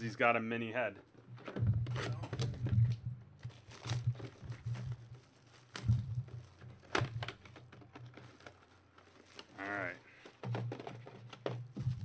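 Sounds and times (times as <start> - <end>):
plastic shrink-wrap crinkling: 1.9 - 12.0.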